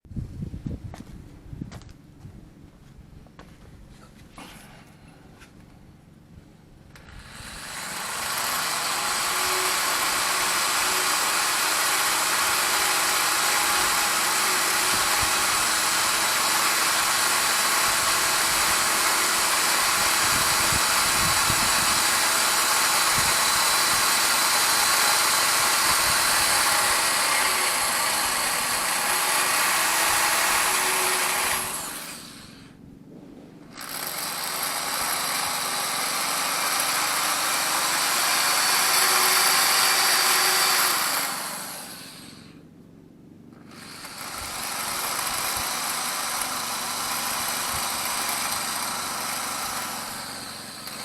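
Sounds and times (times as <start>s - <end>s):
die grinder spinning with hiss: 7.0s - 32.8s, 33.6s - 42.6s, 43.6s - 51.0s.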